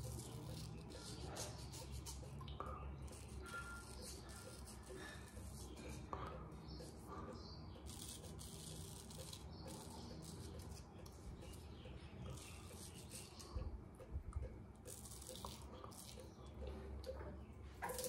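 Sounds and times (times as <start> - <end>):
razor scraping stubble: 0.0 - 13.7, 14.4 - 17.2, 17.8 - 18.0.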